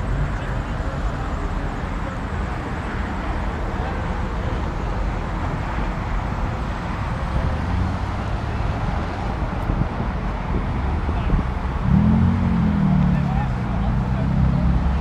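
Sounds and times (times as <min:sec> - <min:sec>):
car engines rumbling past: 0:00.0 - 0:15.0.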